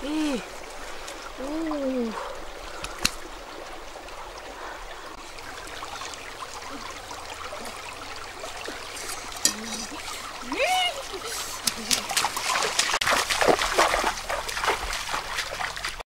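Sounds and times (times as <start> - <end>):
stream running over mud: 0.0 - 16.0.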